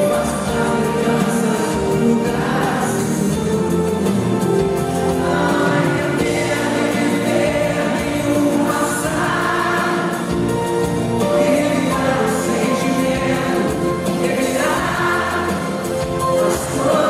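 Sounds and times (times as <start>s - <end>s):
pop ballad singing with band: 0.0s - 17.0s.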